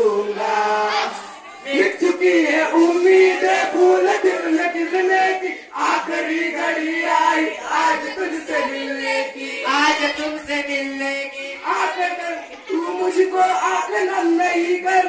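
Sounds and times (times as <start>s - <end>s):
boys singing together: 0.0s - 15.0s.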